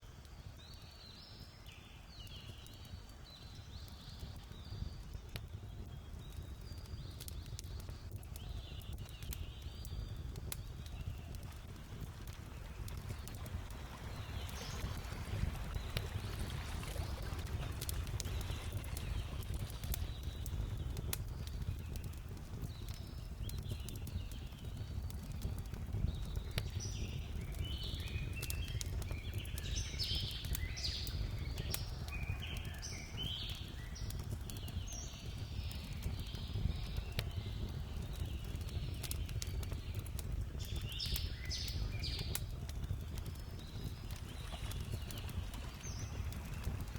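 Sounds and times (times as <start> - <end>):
birds chirping: 6.3 - 46.9.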